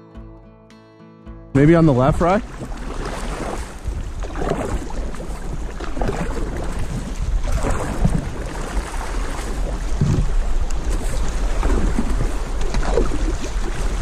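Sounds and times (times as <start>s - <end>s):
canoe paddling: 1.6s - 14.0s
wind buffeting microphone: 1.6s - 14.0s
water rushing over rocks: 1.7s - 14.0s.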